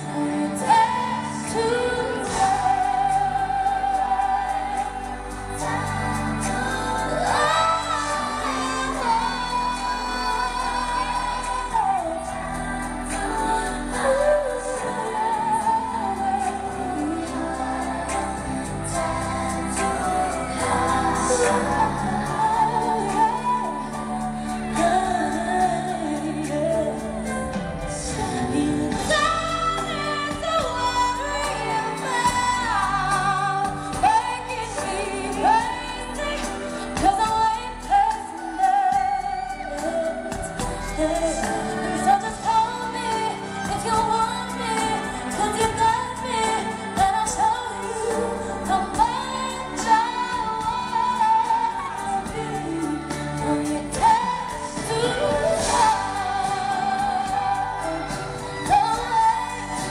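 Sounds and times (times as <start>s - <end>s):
band accompaniment: 0.0s - 59.9s
woman singing a slow ballad: 0.0s - 59.9s.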